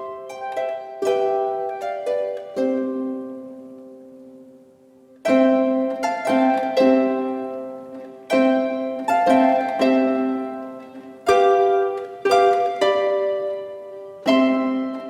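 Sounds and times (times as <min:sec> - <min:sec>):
plucked harp-like string notes: 0:00.0 - 0:15.0.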